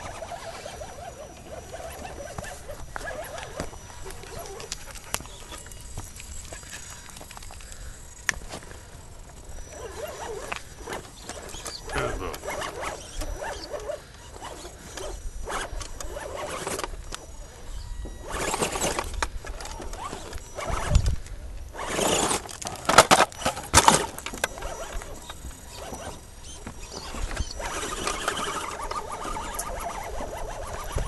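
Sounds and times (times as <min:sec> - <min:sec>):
electric motor and gearbox whining: 0:00.0 - 0:31.0.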